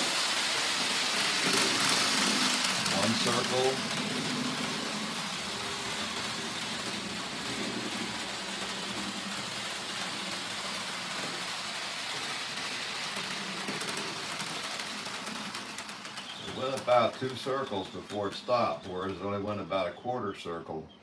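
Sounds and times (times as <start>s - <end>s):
model train motor hum and rattle: 0.0s - 19.8s.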